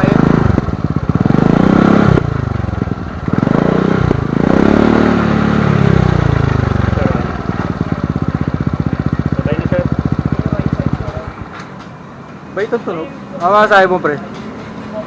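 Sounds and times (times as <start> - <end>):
scooter engine revving: 0.0 - 12.7.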